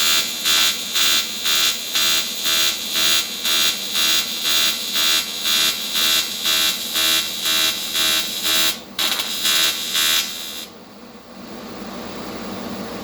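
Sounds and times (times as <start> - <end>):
pulsed welding arc buzzing: 0.0 - 10.7.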